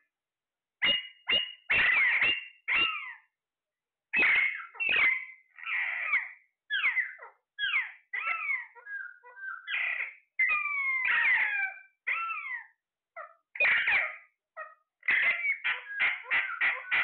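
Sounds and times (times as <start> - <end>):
parrot whistles and squawks: 0.8 - 3.3, 4.2 - 17.0.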